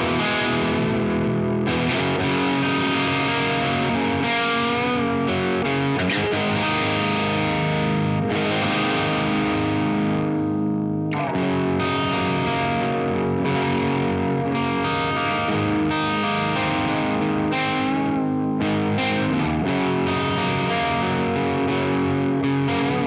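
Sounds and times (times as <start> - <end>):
distorted electric guitar chords: 0.0 - 23.0.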